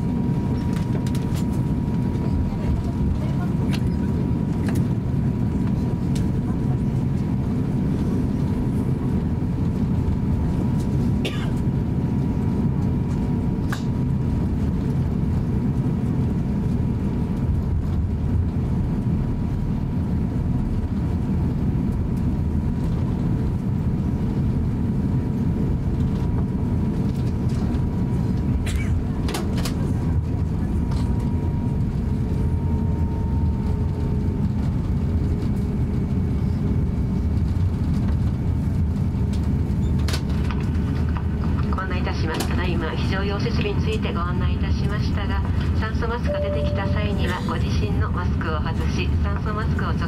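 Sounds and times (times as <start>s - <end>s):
airplane cabin rumble: 0.0s - 50.0s.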